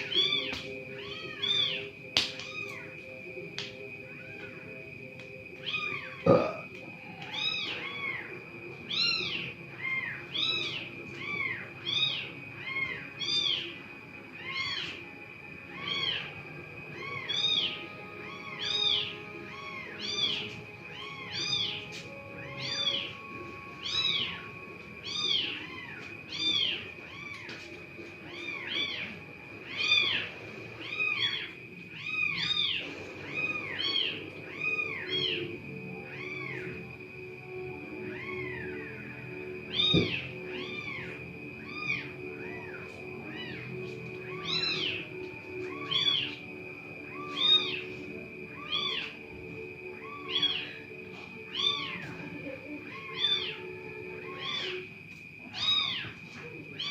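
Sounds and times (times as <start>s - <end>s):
animal calling: 0.0s - 3.1s, 5.6s - 56.9s
steady high tone: 0.0s - 55.6s.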